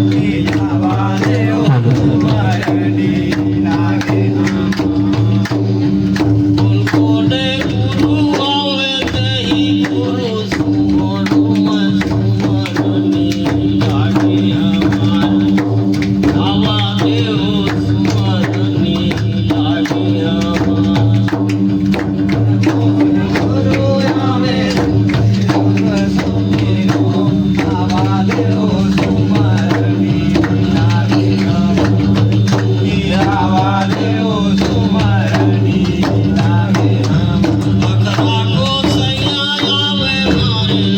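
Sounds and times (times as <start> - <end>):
percussion beat: 0.0 - 40.9.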